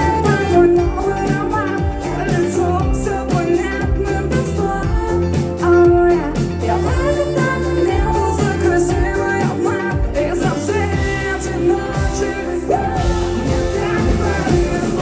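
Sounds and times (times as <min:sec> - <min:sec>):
live pop band playing: 0:00.0 - 0:15.0
woman singing: 0:00.0 - 0:15.0.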